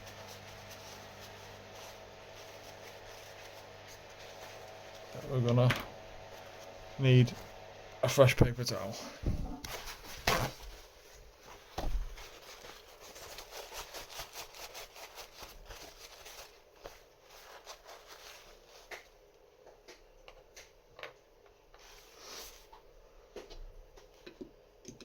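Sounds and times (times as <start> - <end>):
paper towel rustling: 0.0 - 19.2, 21.7 - 22.9.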